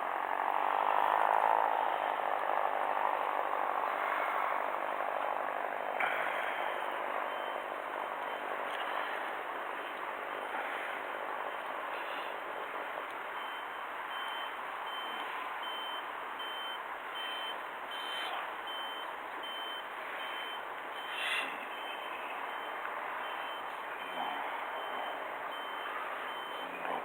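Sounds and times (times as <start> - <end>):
background noise: 1.0 - 27.0.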